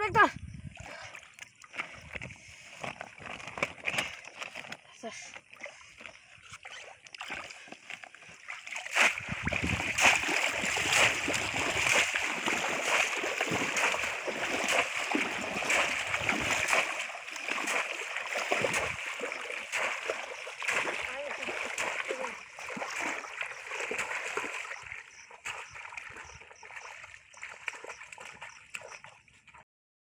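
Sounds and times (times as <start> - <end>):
person wading through water: 0.4 - 29.6
water splashing: 0.7 - 29.6.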